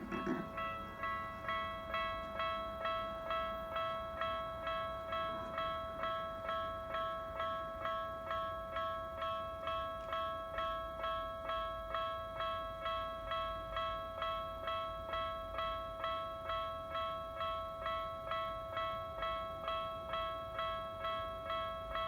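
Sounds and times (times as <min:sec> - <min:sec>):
level crossing bell ringing: 0:00.0 - 0:22.0.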